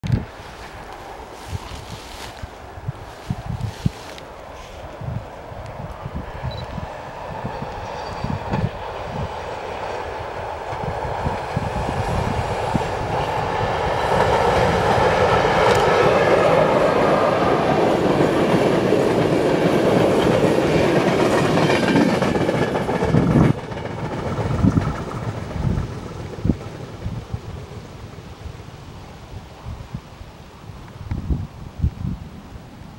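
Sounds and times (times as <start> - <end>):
passenger train passing at speed: 0.1 - 29.9.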